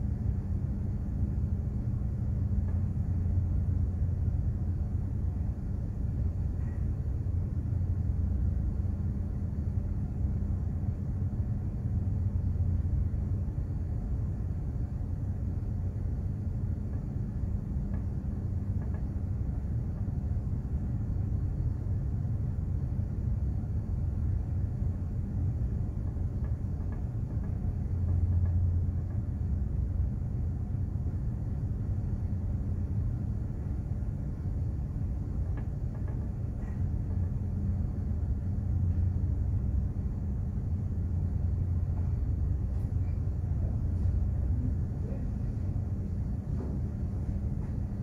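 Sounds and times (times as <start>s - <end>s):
faint hum: 0.0s - 48.0s
ship low rumble: 0.0s - 48.0s.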